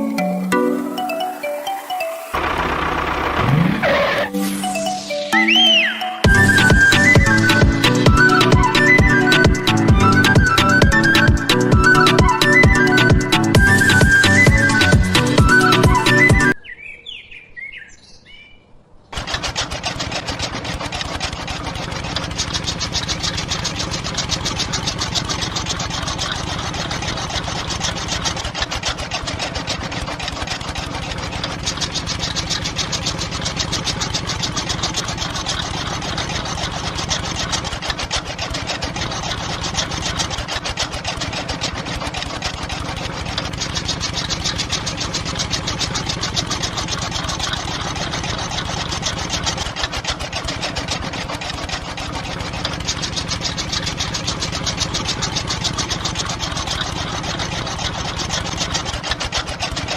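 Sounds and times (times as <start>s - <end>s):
small motor chattering: 2.3s - 5.1s, 6.2s - 16.6s, 19.1s - 59.9s.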